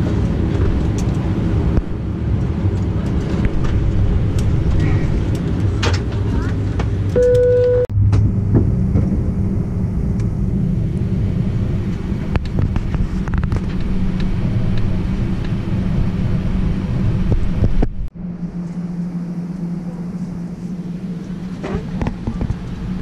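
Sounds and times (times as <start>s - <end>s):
aircraft cabin hum and rumble: 0.0s - 23.0s.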